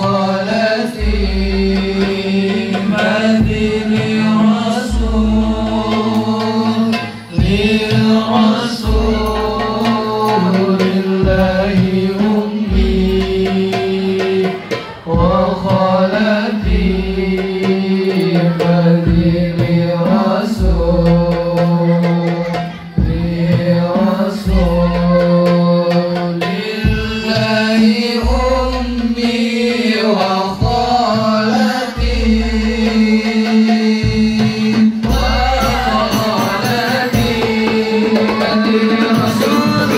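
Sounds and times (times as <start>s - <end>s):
frame drums: 0.0s - 39.9s.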